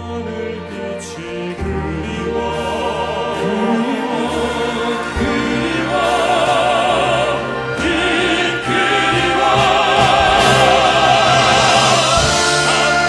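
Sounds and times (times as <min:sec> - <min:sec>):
male vocal quartet singing: 0:00.0 - 0:13.0
orchestral accompaniment: 0:00.0 - 0:13.0.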